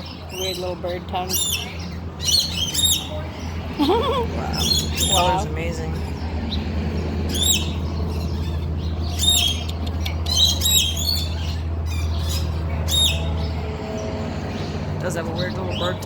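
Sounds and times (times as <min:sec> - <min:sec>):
birds squawking: 0:00.0 - 0:16.0
steady low hum: 0:00.0 - 0:16.0.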